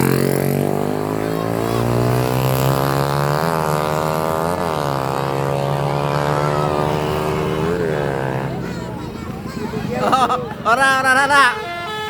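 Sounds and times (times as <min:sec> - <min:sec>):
bus passing with loud drone: 0:00.0 - 0:12.0.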